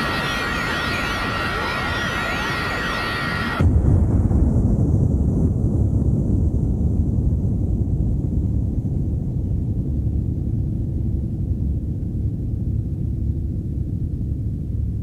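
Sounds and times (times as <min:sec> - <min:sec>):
deep steady rumble: 0:00.0 - 0:15.0.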